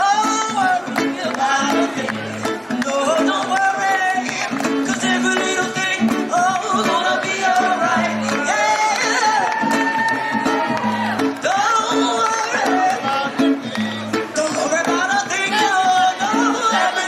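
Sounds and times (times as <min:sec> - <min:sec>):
strummed guitar: 0:00.0 - 0:17.0.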